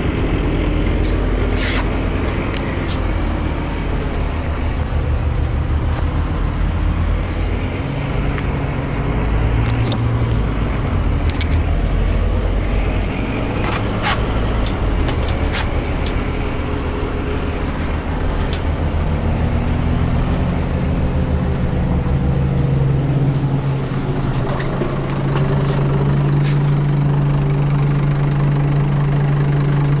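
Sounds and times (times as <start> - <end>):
bus body rattling and clicking: 0.0 - 30.0
bus engine drone: 0.0 - 30.0.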